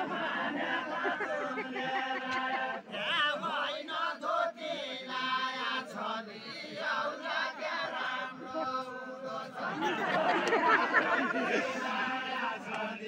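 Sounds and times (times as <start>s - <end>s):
group of men singing in unison: 0.0s - 13.0s.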